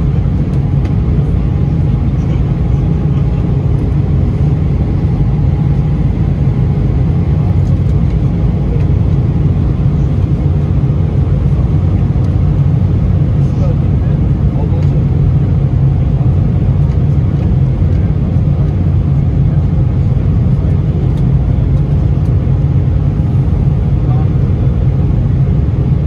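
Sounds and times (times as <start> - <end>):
airliner engines rumbling: 0.0 - 26.0.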